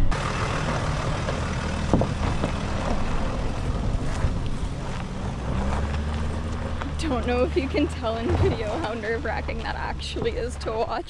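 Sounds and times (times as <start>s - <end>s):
knocks and rattles from bumps: 0.0s - 10.9s
van engine humming: 0.0s - 11.0s.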